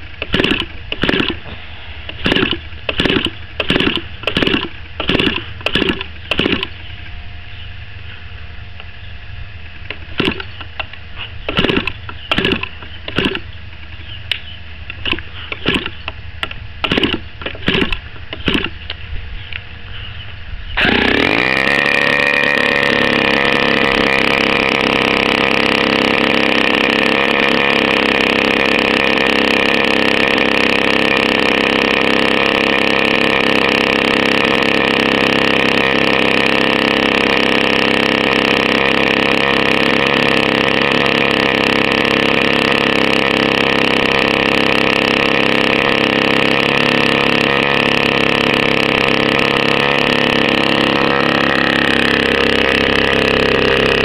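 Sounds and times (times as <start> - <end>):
model aircraft engine: 0.0 - 20.0, 20.6 - 54.0.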